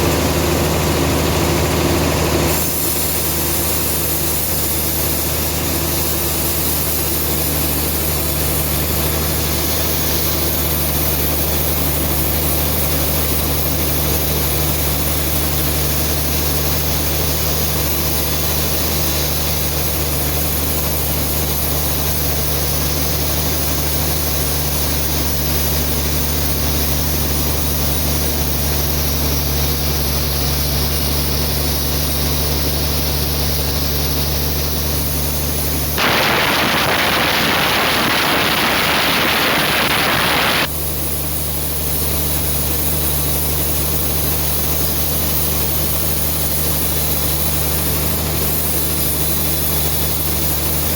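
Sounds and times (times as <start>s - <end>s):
band saw running: 0.0s - 50.9s.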